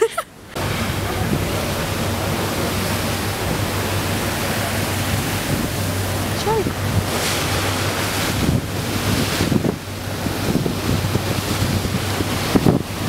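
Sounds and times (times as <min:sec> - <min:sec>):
low engine drone: 0:00.0 - 0:13.0
wake churning: 0:00.6 - 0:13.0
wind on microphone: 0:00.6 - 0:13.0.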